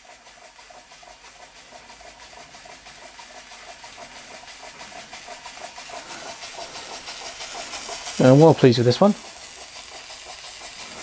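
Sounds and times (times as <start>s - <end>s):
steam hiss: 0.0s - 11.0s
toy steam engine beats: 0.0s - 11.0s.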